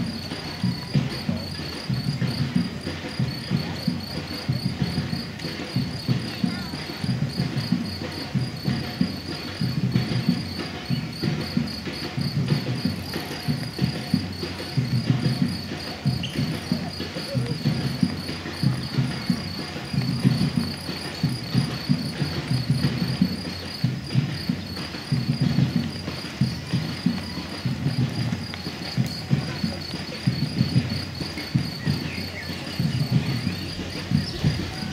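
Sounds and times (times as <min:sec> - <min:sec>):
insect chirping: 0:00.0 - 0:34.9
runners' footsteps on pavement: 0:00.0 - 0:34.9.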